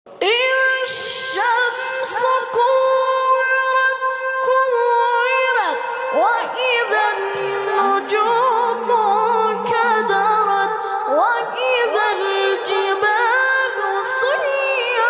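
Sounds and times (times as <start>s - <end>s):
melodic recitation by high voice: 0.1s - 15.0s.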